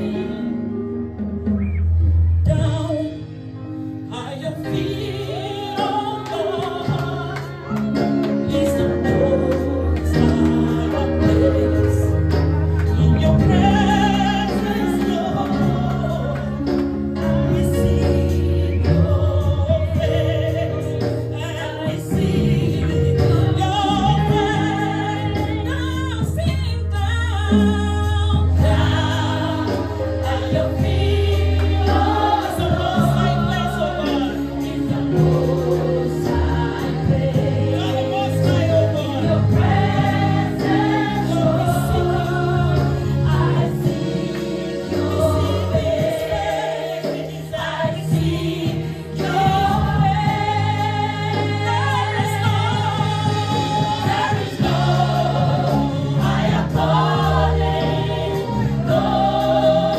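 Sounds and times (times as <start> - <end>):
gospel choir singing: 0.0 - 1.5, 4.1 - 26.6, 27.4 - 59.9
low instrumental chords: 0.0 - 59.9.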